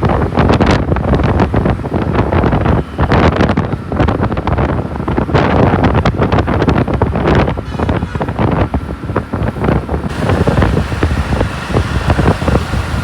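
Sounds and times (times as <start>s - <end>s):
road and vehicle noise: 0.0s - 13.0s
wind buffeting microphone: 0.0s - 13.0s.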